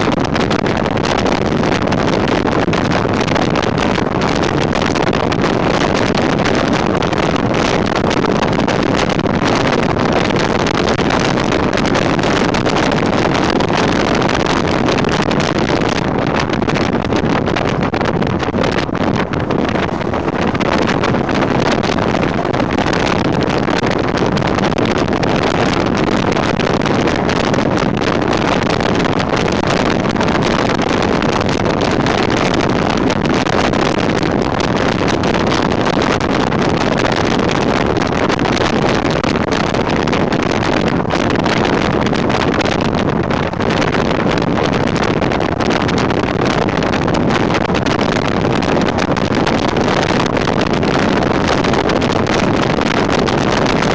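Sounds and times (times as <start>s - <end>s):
tyre and engine noise: 0.0s - 53.9s
wind buffeting microphone: 0.0s - 53.9s.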